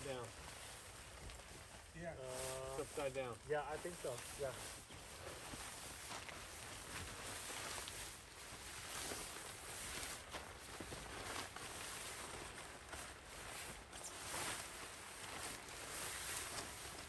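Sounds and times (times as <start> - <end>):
tent fabric rustling: 0.0 - 17.0.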